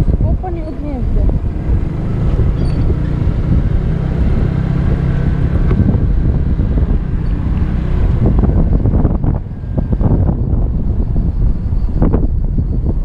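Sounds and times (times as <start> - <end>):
scooter engine running: 0.0 - 11.4
wind noise on microphone: 0.0 - 13.0.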